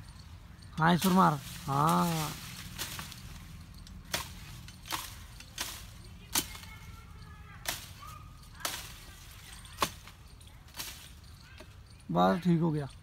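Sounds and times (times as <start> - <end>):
blade chopping tree branches: 0.8 - 11.8.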